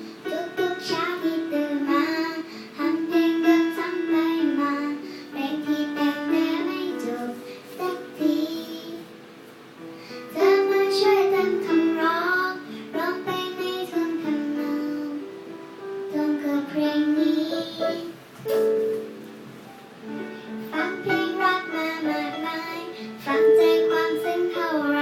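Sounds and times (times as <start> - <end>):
child singing: 0.0 - 9.2, 10.2 - 15.3, 16.1 - 18.2, 20.6 - 25.0.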